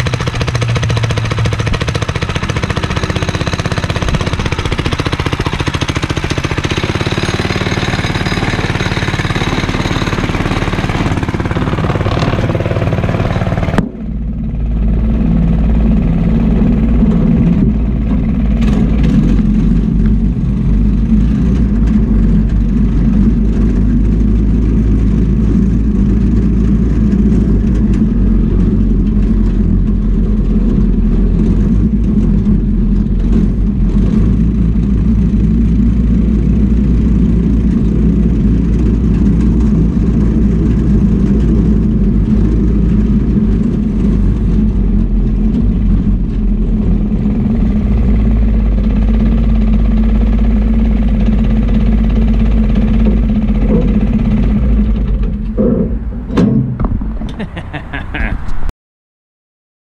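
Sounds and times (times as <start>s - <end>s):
go-kart engine running: 0.0s - 58.3s.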